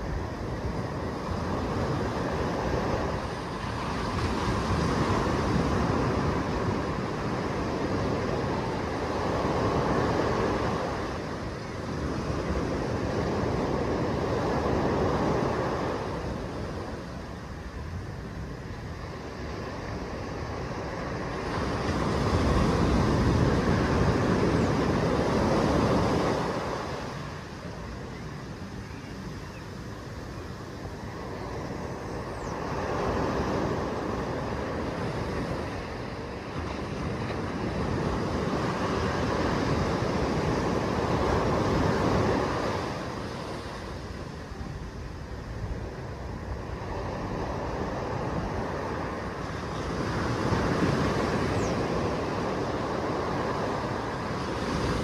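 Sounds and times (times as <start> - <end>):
surf washing up a beach: 0.0 - 55.0.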